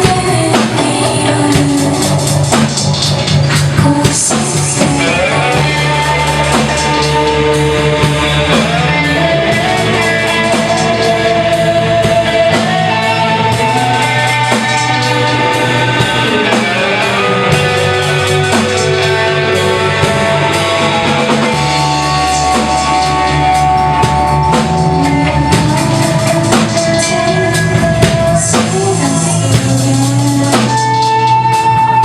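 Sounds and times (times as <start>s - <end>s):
drum kit beat: 0.0s - 32.0s
electric guitar chords: 0.0s - 32.0s.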